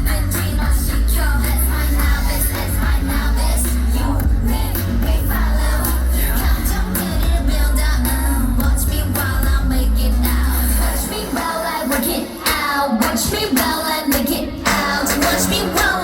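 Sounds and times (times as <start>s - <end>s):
heavy bass beat: 0.0s - 13.2s
female vocals: 0.0s - 16.0s
pop dance track: 0.0s - 16.0s.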